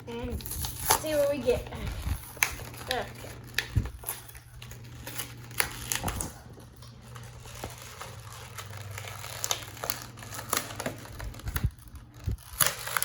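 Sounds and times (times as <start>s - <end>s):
steady low hum: 0.0s - 13.0s
plastic packaging crinkling: 0.1s - 13.0s.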